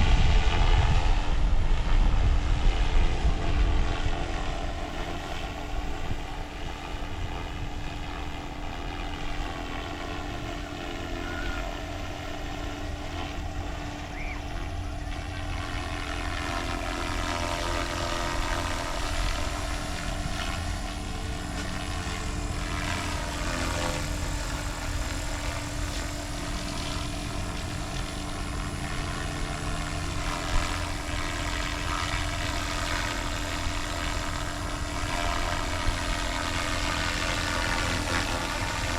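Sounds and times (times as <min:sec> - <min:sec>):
helicopter flying low: 0:00.0 - 0:38.9.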